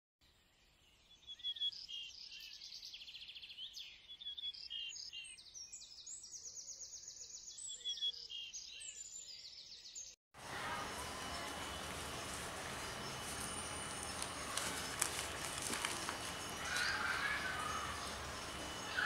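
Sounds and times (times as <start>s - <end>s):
songbird singing trills: 0.7s - 19.0s.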